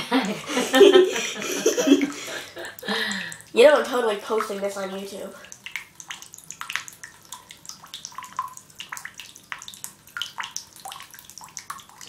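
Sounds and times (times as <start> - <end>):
water dripping into bathtub: 0.0 - 12.0.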